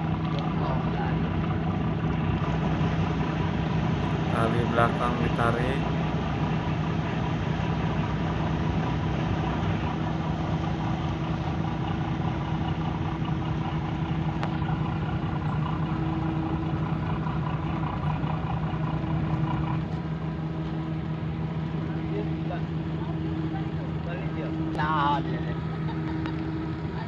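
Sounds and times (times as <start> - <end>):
ship diesel engines droning: 0.0 - 27.0.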